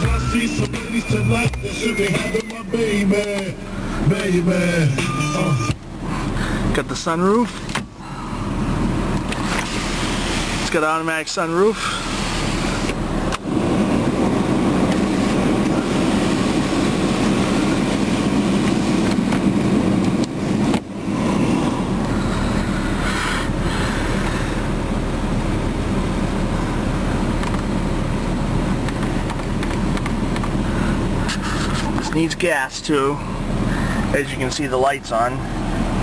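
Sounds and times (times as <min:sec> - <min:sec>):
car cabin noise: 0:00.0 - 0:36.0.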